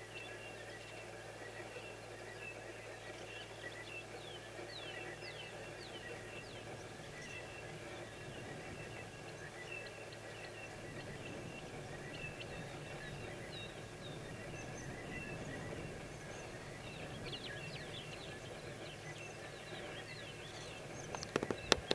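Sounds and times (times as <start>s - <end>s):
low background rumble: 0.0s - 21.9s
small birds chirping and trilling: 0.0s - 21.9s.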